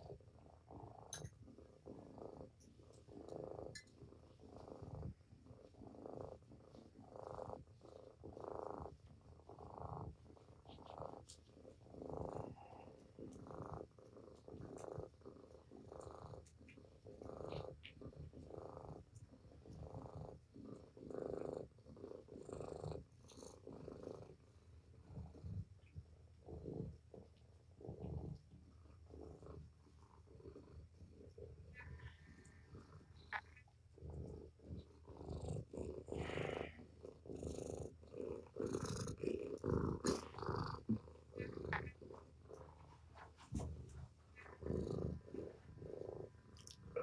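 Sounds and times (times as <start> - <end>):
cat purring: 0.0 - 47.0.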